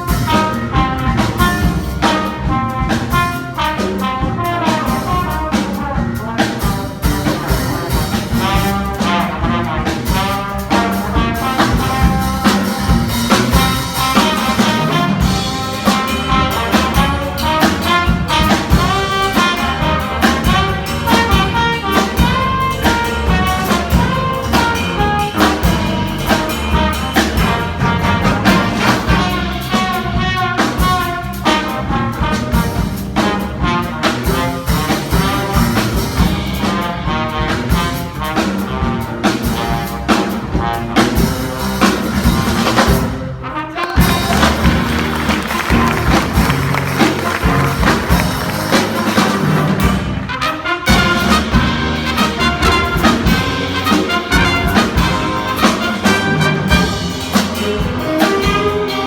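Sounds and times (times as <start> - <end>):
jazz music with brass horns: 0.0 - 59.0.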